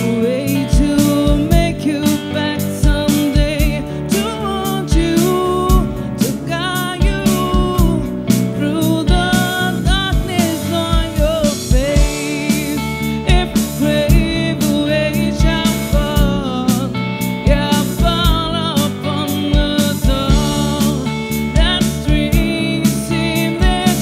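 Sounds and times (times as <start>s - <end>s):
drum kit beat: 0.0s - 24.0s
electric bass: 0.0s - 24.0s
electric guitar: 0.0s - 24.0s
woman singing: 0.0s - 24.0s.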